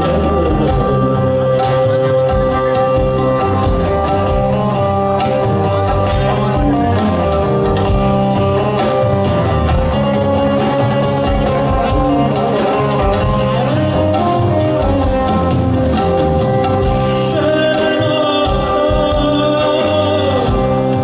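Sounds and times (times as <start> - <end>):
bass: 0.0 - 21.0
drum kit: 0.0 - 21.0
electric guitar: 0.0 - 21.0.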